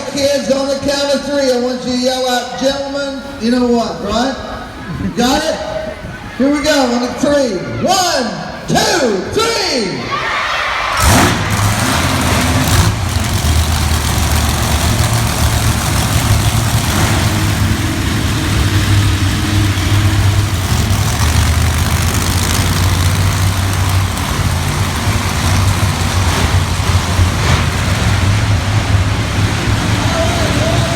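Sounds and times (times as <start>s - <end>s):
monster truck engines idling: 0.0s - 30.9s.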